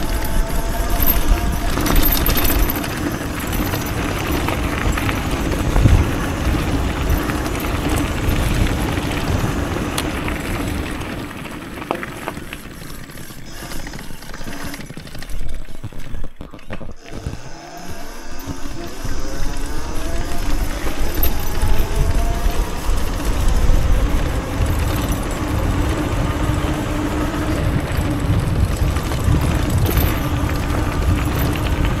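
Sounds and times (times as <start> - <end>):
wind rushing over microphone: 0.0 - 11.9, 17.2 - 32.0
electric motor whine: 0.0 - 32.0
tyres crunching on gravel: 0.0 - 32.0.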